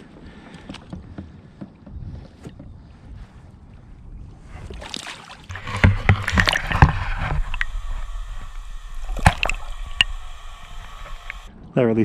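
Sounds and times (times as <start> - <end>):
water splashing and sloshing: 0.0 - 11.5.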